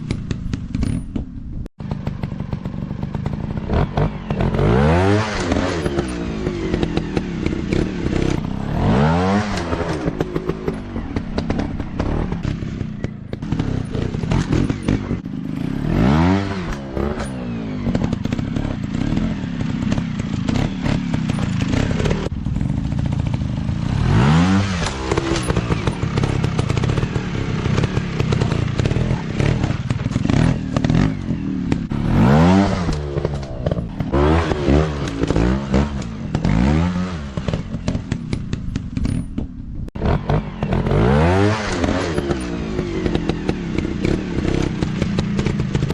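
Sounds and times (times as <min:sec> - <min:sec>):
dirt bike engines revving: 0:01.8 - 0:45.9.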